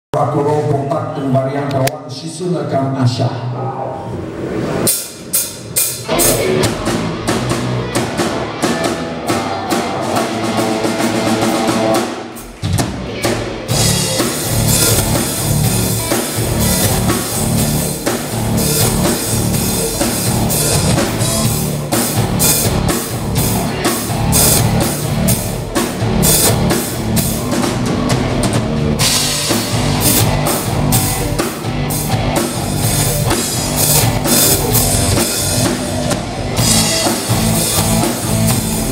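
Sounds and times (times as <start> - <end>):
drum kit with cymbals: 4.9 - 38.9
electric guitars: 5.6 - 38.9.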